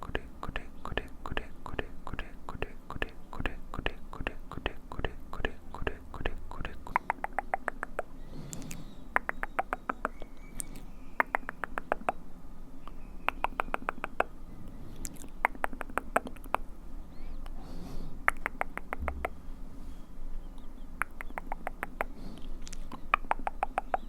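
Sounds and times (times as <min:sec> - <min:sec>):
wet mouth clicks: 0:00.0 - 0:12.2, 0:12.8 - 0:16.7, 0:18.2 - 0:19.4, 0:20.5 - 0:24.0.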